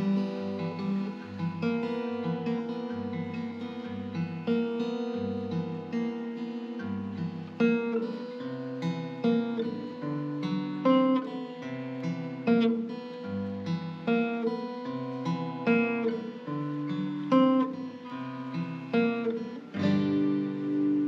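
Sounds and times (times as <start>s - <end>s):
acoustic guitar picking: 0.0s - 21.0s
guitar chord ringing: 0.0s - 21.0s.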